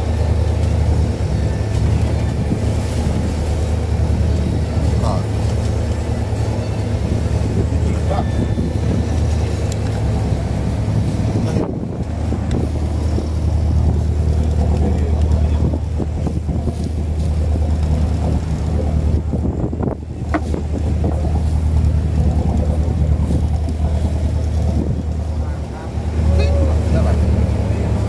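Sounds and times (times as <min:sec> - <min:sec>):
boat engine droning: 0:00.0 - 0:28.0
wind on microphone: 0:00.0 - 0:28.0.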